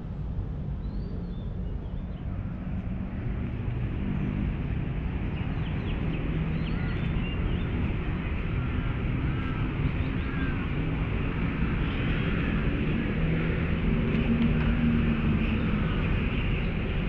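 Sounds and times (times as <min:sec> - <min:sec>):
city traffic hum: 0:00.0 - 0:17.0.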